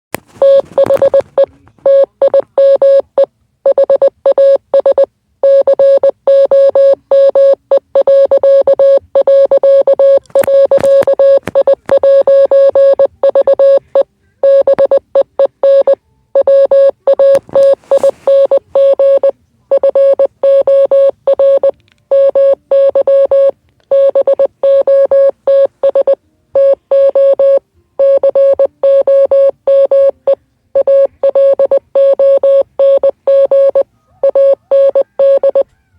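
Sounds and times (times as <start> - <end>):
morse code beeps: 0.4 - 35.6.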